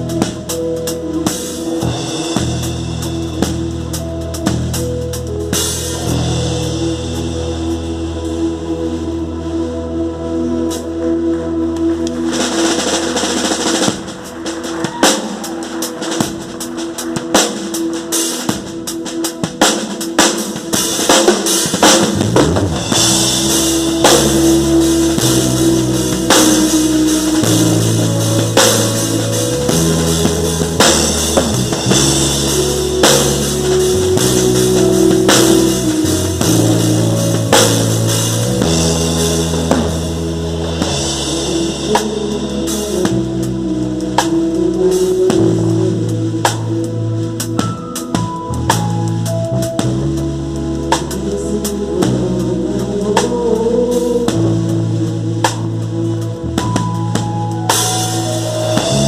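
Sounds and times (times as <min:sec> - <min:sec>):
drum kit steady beat: 0:00.0 - 0:09.0, 0:11.8 - 0:59.0
bass line: 0:00.0 - 0:59.0.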